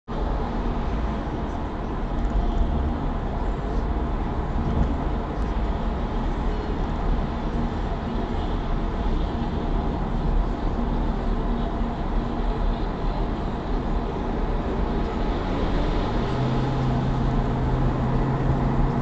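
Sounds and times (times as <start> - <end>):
low engine drone: 0.1 - 19.0
road and tyre noise: 0.1 - 19.0.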